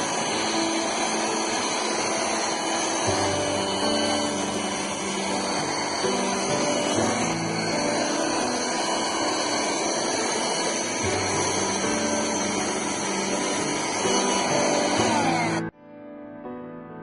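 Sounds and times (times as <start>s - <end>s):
vacuum cleaner running: 0.0s - 15.7s.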